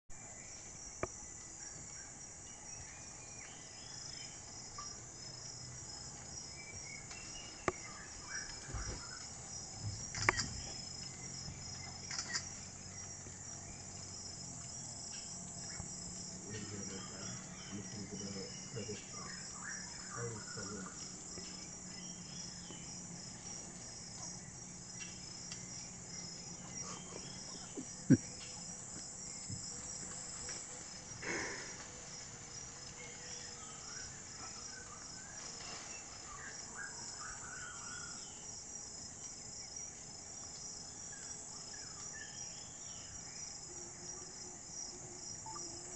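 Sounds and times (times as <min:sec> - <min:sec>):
insects chorus: 0:00.1 - 0:45.9.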